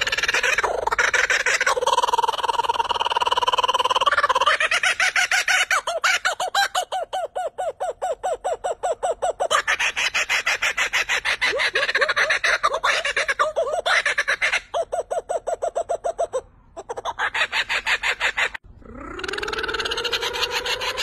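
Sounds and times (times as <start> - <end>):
kookaburra laughing: 0.0 - 21.0.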